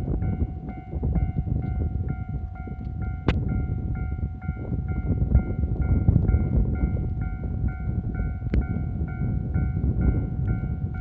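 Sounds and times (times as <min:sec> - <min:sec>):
level-crossing warning bell: 0:00.0 - 0:11.0
steady low rumble: 0:00.0 - 0:11.0.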